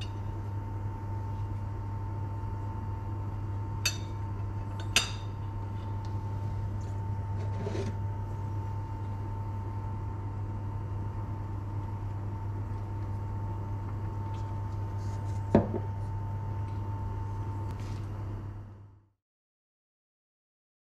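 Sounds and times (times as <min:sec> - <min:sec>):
low hum with faint high tone: 0:00.0 - 0:19.1.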